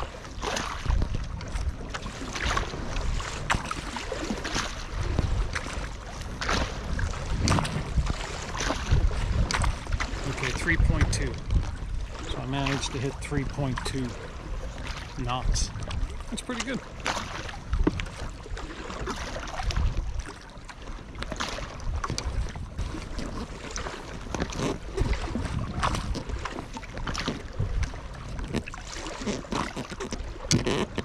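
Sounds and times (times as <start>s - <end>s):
wind on microphone: 0.0s - 20.4s, 21.2s - 31.0s
paddle splashing in water: 0.0s - 31.0s.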